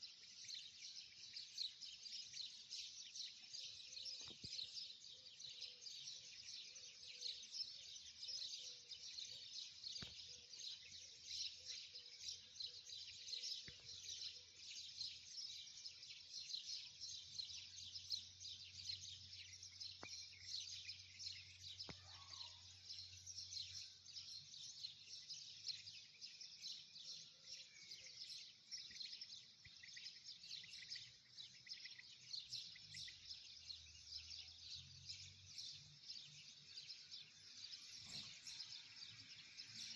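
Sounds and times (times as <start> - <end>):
many birds chirping: 0.0 - 39.9.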